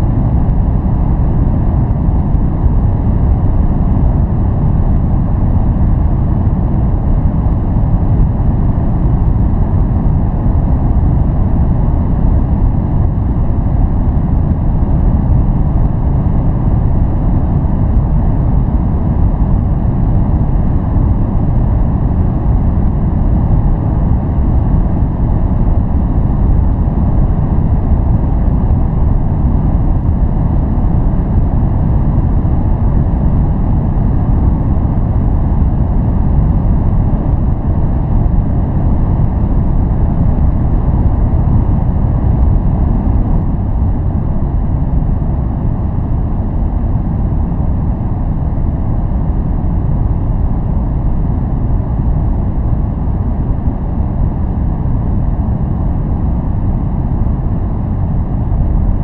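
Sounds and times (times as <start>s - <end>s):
deep rumble: 0.0s - 59.0s.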